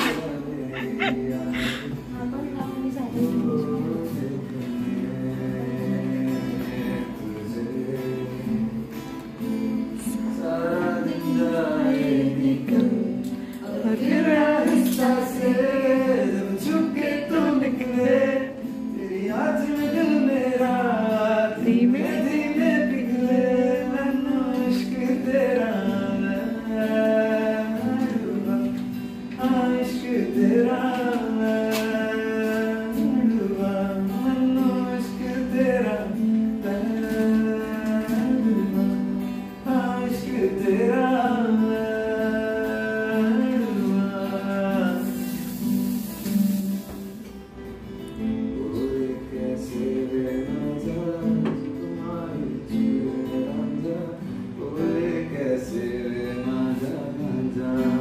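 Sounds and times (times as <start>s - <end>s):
man singing: 0.0s - 47.3s, 48.2s - 58.0s
acoustic guitar strumming: 0.0s - 58.0s.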